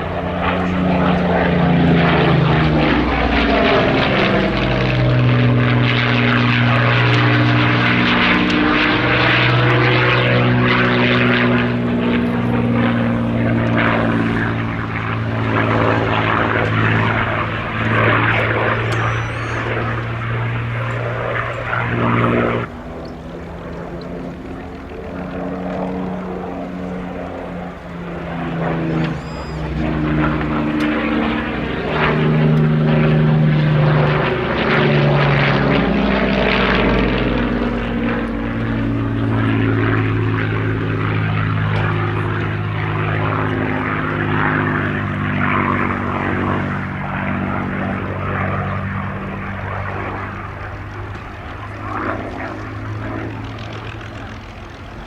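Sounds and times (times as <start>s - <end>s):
propeller plane engine flying: 0.0s - 55.0s.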